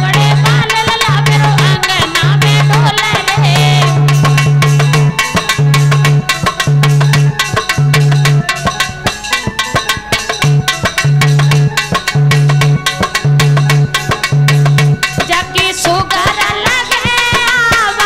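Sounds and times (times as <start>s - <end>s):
fast tabla-like drumming: 0.0s - 18.0s.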